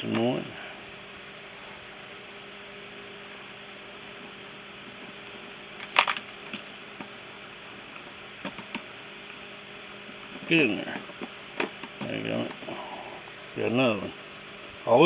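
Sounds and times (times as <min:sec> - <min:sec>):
steady low hum and hiss: 0:00.0 - 0:15.0.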